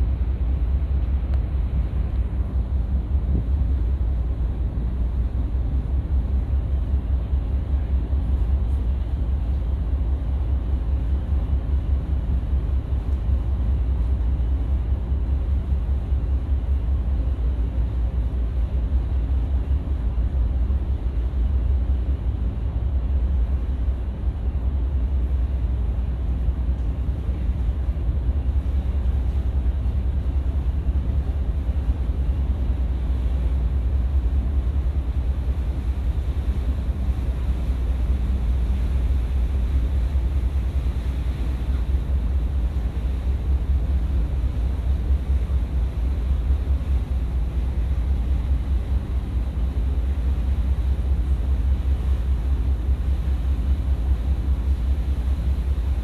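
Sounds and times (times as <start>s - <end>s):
ship engine rumble: 0.0s - 56.0s.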